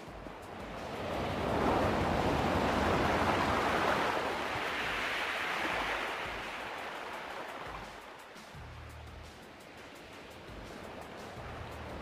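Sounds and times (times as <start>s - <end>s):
steady outdoor rushing noise: 0.0s - 12.0s.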